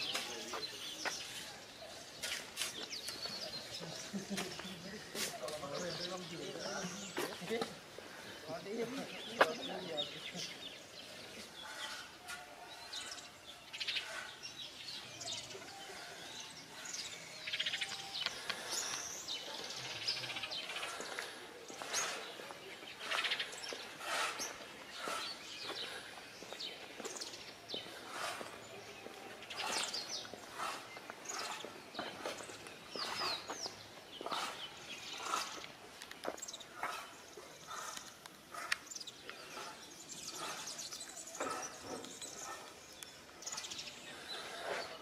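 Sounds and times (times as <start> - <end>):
birds chirping and calling: 0.0 - 45.0.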